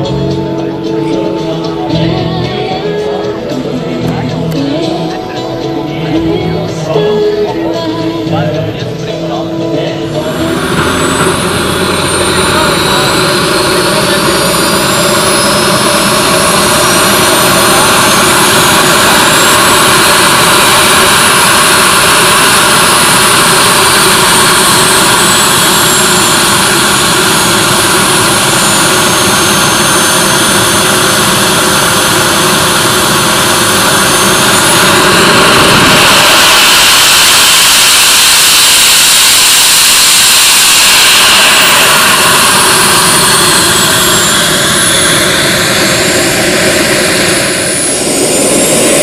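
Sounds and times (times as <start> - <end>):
model jet turbines roaring: 0.0 - 49.0.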